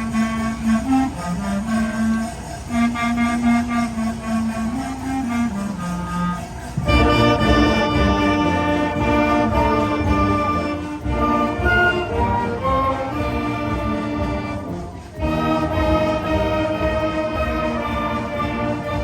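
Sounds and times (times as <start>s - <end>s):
wind band playing: 0.0s - 19.0s.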